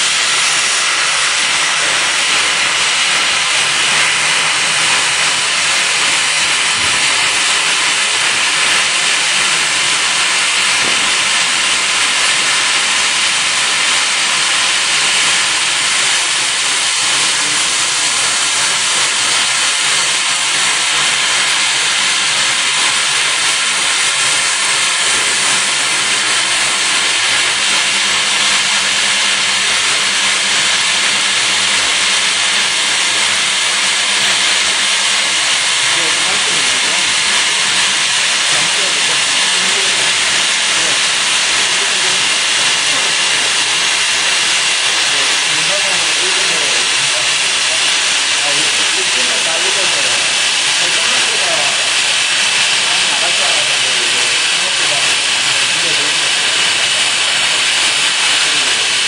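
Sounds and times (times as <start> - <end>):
low machine hum: 0.0 - 49.5
air jets hissing: 0.0 - 59.0.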